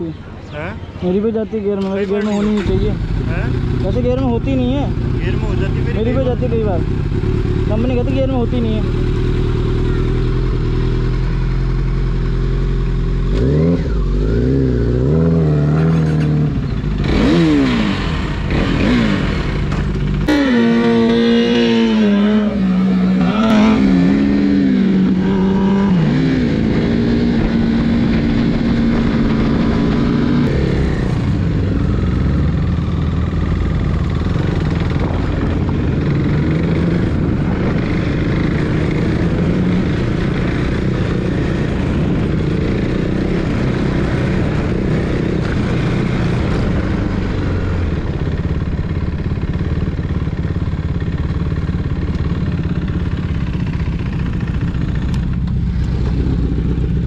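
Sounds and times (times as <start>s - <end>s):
motorcycle engines accelerating: 0.0s - 57.0s.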